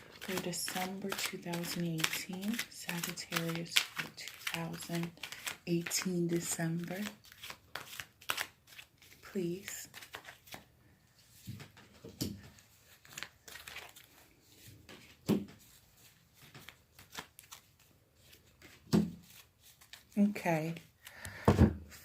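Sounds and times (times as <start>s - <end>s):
cards rustling: 0.0s - 21.4s.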